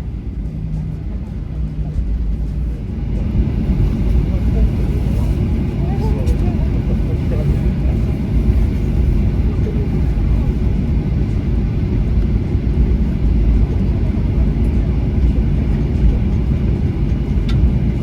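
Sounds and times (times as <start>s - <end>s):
airliner cabin low rumble: 0.0s - 18.0s.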